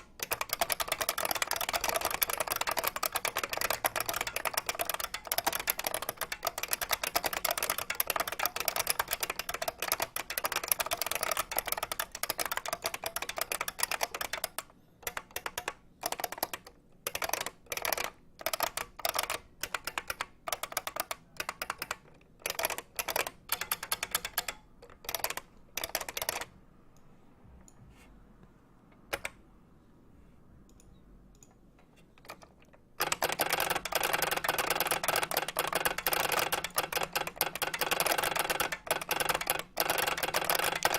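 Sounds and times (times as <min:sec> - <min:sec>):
keyboard typing: 0:00.0 - 0:26.6, 0:29.0 - 0:29.4, 0:30.7 - 0:40.9.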